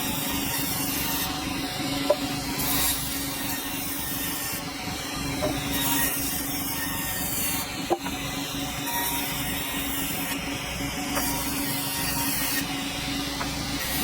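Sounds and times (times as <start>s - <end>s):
saw rasping through wood: 0.0s - 10.5s, 11.1s - 14.0s
sawmill machinery hum: 0.0s - 14.0s.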